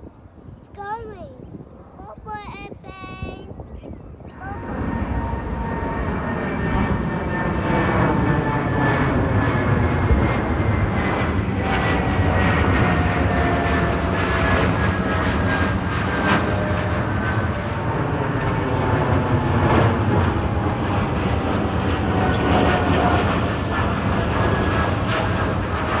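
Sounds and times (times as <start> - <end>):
jet airliner passing overhead: 2.6 - 26.0.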